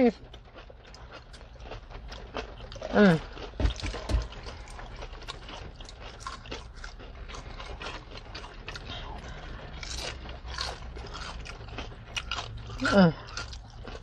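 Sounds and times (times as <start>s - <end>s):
chewing crunchy food: 0.0s - 14.0s
steady low hum: 0.0s - 14.0s.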